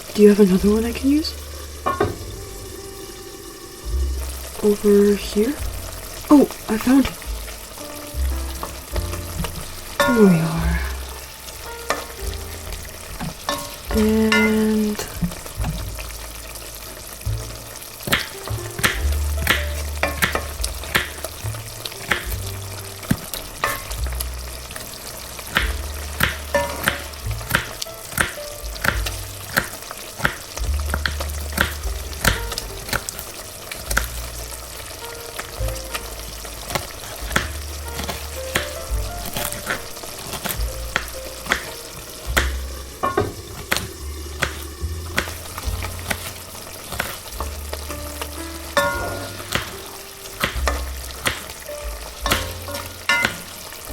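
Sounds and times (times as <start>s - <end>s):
food sizzling in a frying pan: 0.0s - 53.9s.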